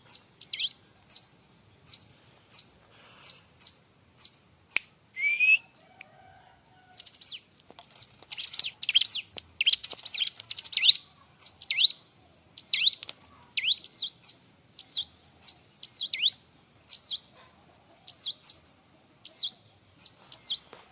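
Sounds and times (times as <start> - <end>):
bird chirping rapidly: 0.0 - 5.8, 6.9 - 17.4, 18.1 - 20.7.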